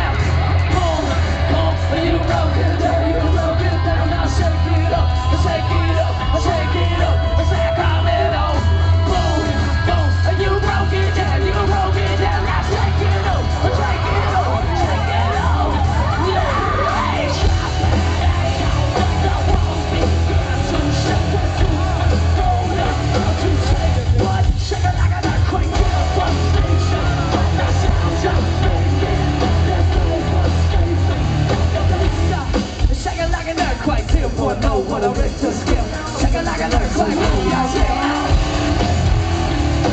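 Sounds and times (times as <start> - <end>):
live rock band playing loud: 0.0 - 39.9
shouted sung vocals: 0.0 - 39.9.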